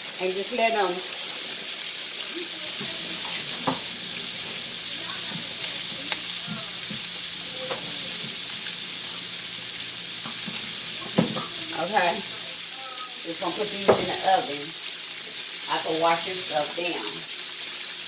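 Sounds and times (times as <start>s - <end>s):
sausages sizzling in a skillet: 0.0s - 18.0s.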